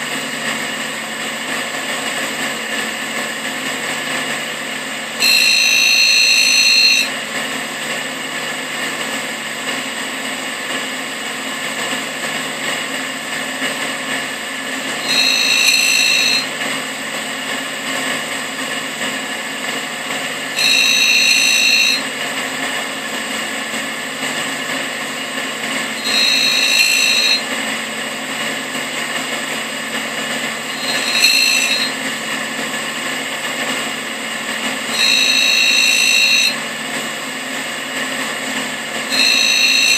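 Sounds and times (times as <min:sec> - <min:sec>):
grinder humming: 0:00.0 - 0:39.9
high-pitched grinding whine: 0:00.0 - 0:39.9.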